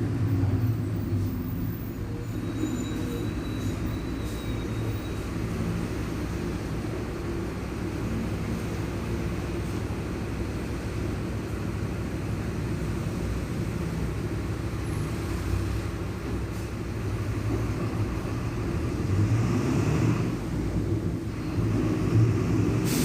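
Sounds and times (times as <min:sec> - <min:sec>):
diesel bus engine running: 0:00.0 - 0:23.0.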